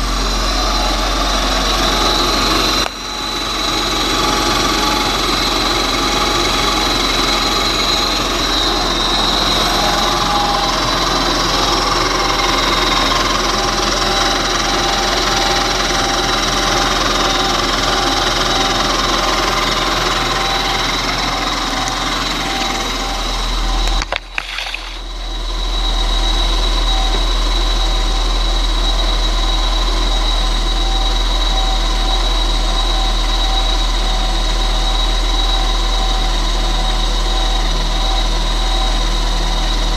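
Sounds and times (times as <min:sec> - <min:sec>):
car engine idling: 0:00.0 - 0:39.9
high-pitched supercharger whine: 0:00.0 - 0:39.9.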